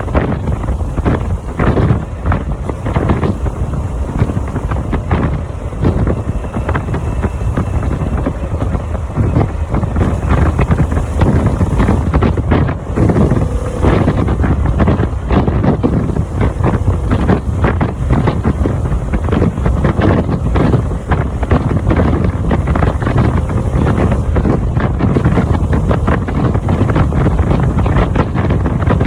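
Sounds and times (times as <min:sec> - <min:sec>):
motorcycle engine rumble: 0:00.0 - 0:29.0
wind buffeting microphone: 0:00.0 - 0:29.0.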